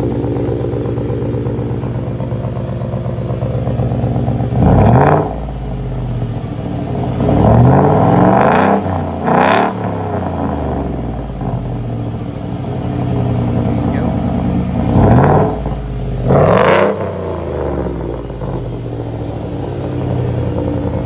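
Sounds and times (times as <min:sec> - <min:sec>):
engine idling and revving: 0:00.0 - 0:21.0.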